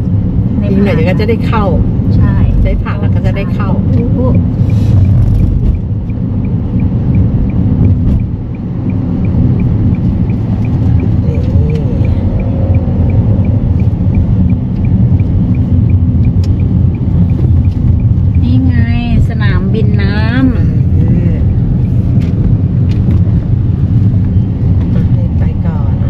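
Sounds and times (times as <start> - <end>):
faint regular ticking: 0.0 - 25.8
car cabin road rumble: 0.0 - 26.0.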